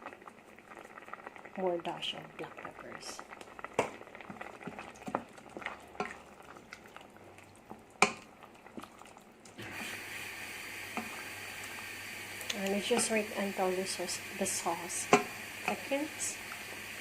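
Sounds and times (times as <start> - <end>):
sauce simmering in a pan: 0.0 - 17.0.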